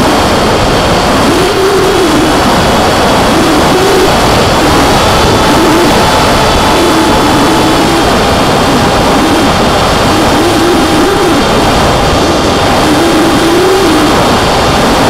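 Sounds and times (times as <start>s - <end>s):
electric motor and propeller whining: 0.0s - 15.0s
wind rush over microphone: 0.0s - 15.0s.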